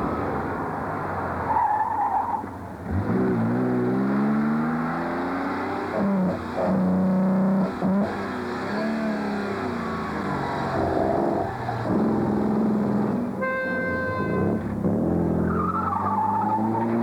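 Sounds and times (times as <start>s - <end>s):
rally car engines revving: 0.0s - 13.4s, 14.4s - 17.0s.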